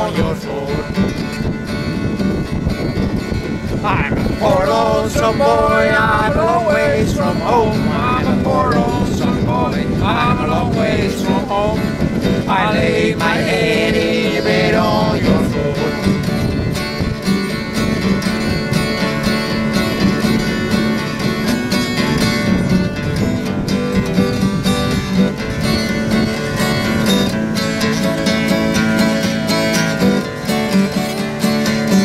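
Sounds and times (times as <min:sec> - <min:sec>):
acoustic guitar picking: 0:00.0 - 0:32.0.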